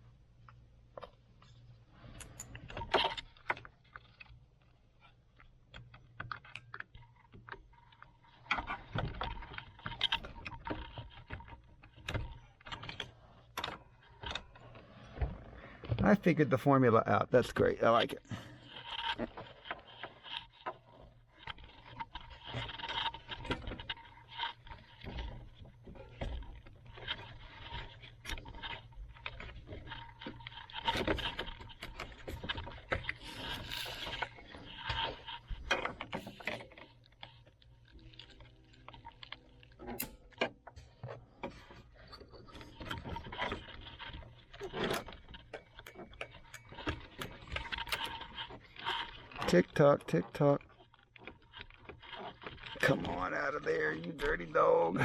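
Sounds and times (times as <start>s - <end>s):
plastic clicks and scraping: 0.4s - 55.0s.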